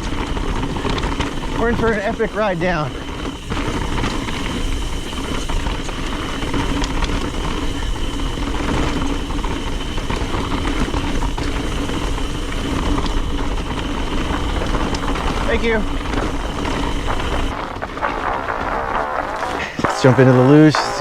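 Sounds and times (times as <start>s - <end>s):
bike knocks and rattles: 0.0s - 21.0s
bike tyres rolling on dirt: 0.0s - 21.0s
wind buffeting microphone: 0.0s - 21.0s.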